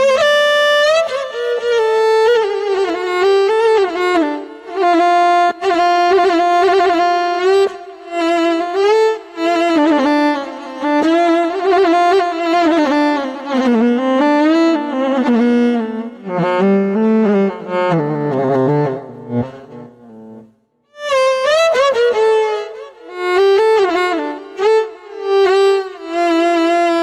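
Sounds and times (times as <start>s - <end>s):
keyboard bowed-string melody: 0.0s - 27.0s.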